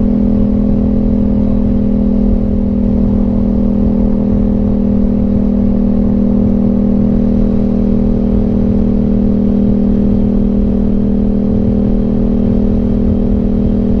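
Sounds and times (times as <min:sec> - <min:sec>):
low uneven rumble: 0:00.0 - 0:14.0
motorcycle engine running: 0:00.0 - 0:14.0.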